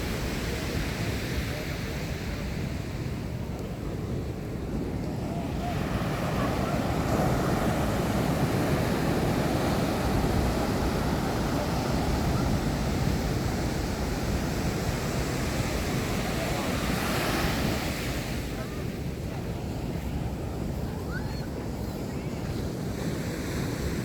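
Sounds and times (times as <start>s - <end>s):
ocean surf washing onto beach: 0.0s - 24.0s.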